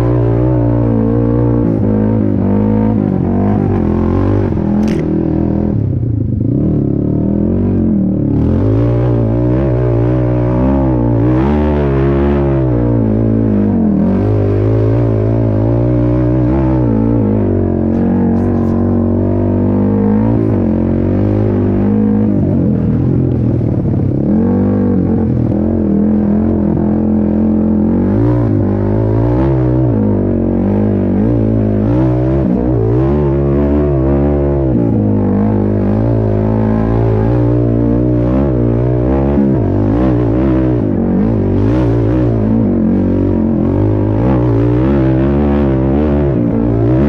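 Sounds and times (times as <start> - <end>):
quad engine revving: 0.0 - 47.0.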